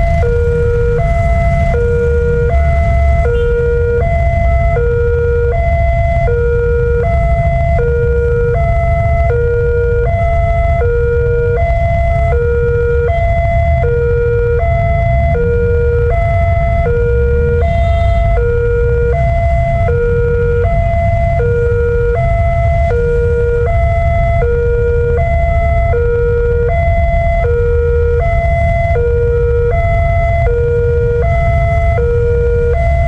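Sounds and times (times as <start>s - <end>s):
steady low rumble: 0.0s - 33.0s
two-tone crossing alarm: 0.0s - 33.0s.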